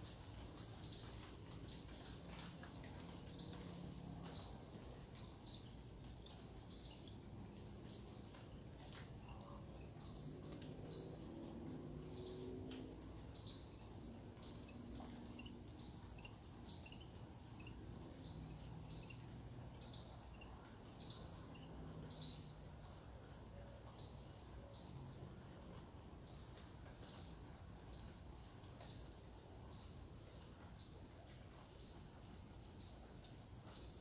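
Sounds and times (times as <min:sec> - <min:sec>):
low background noise: 0:00.0 - 0:34.0
bird chirping: 0:00.6 - 0:34.0.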